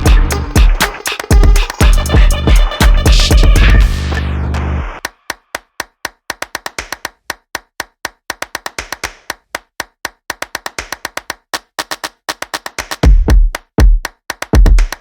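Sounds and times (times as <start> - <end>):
wood block clicks in rhythm: 0.0 - 3.9, 5.0 - 15.0.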